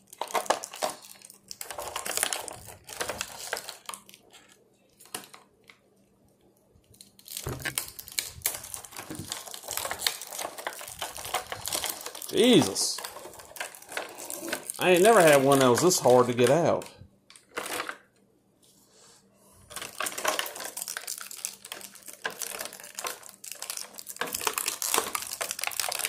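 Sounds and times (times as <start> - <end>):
plastic packaging crinkling: 0.0 - 5.8, 6.8 - 18.1, 19.7 - 26.0.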